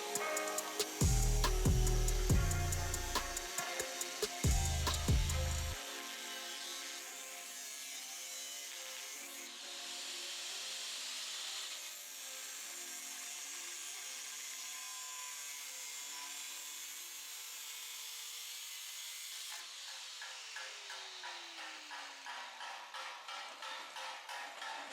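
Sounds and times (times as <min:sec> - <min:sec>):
power tool grinding steel: 0:00.0 - 0:24.9.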